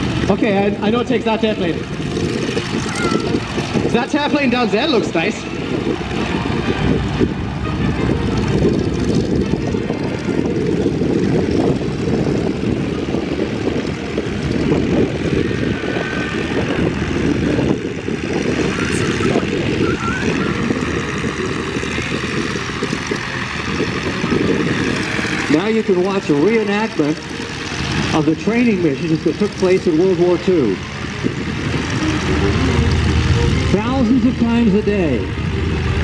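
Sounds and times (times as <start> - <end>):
propeller plane engines droning: 0.0 - 36.0.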